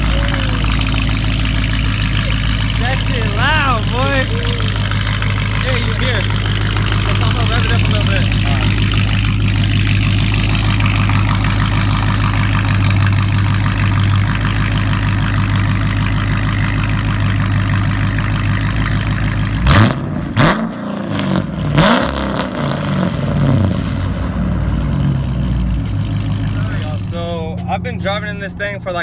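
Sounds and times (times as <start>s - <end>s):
loud car engine revving: 0.0s - 28.4s.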